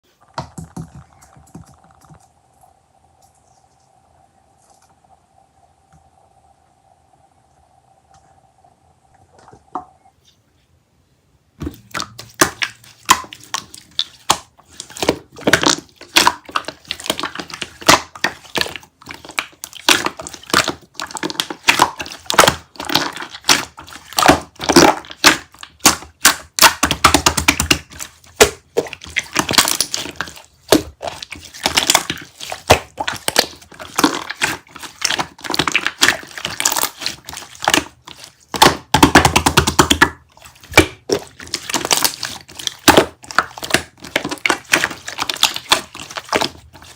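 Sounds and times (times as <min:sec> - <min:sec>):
close crackling and crinkling: 0:00.0 - 0:05.2, 0:11.6 - 0:46.9.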